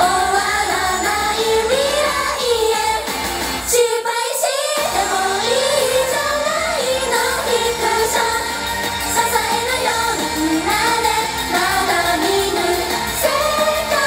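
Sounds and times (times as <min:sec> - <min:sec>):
backing track with steady beat: 0:00.0 - 0:03.7, 0:04.8 - 0:14.0
women singing pop song live: 0:00.0 - 0:14.0.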